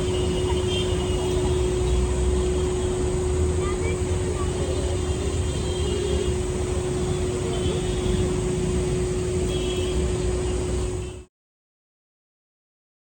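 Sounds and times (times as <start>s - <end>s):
vehicle rumble with low hum: 0.0s - 11.3s.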